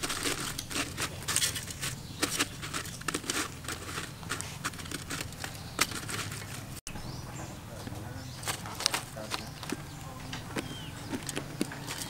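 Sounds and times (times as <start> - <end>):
stalks shifting on coarse salt: 0.0 - 6.8, 8.4 - 12.0.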